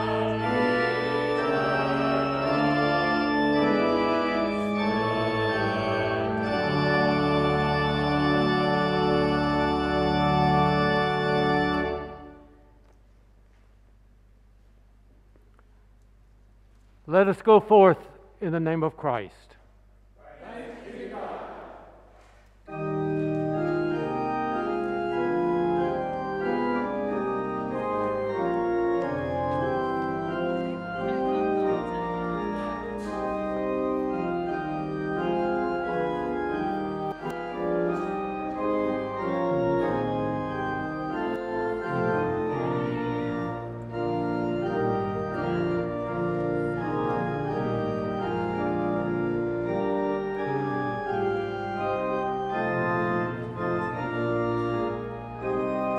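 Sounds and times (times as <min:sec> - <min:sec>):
church organ chords: 0:00.0 - 0:13.4, 0:15.9 - 0:20.2, 0:21.8 - 0:55.9.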